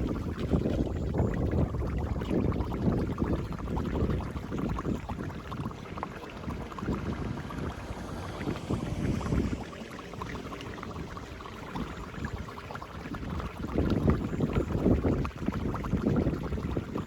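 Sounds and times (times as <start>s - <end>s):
water gurgling down a grate: 0.0s - 17.0s
wind buffeting microphone: 0.0s - 17.0s.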